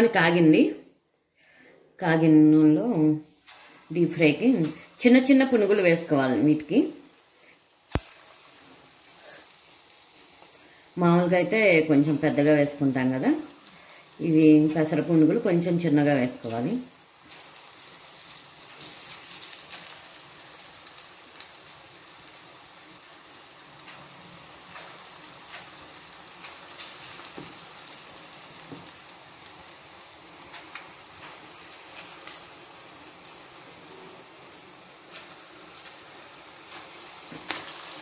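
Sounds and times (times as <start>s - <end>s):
batter deep-frying in oil: 2.7s - 38.0s.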